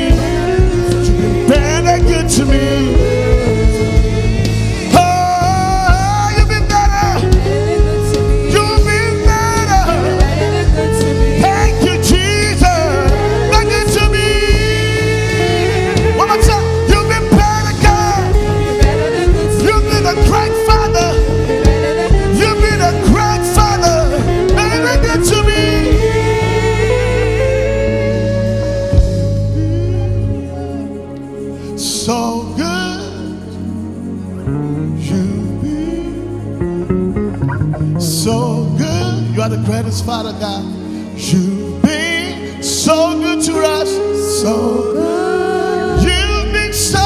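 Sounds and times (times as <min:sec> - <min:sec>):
gospel singer with full band: 0:00.0 - 0:47.0.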